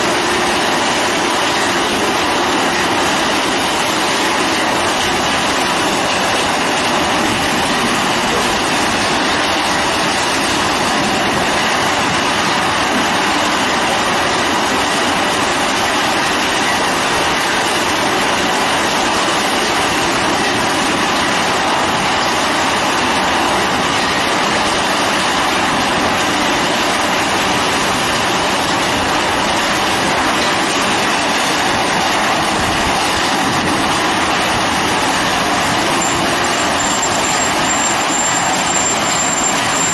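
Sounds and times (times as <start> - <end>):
hammer mill shredding metal: 0.0 - 39.9.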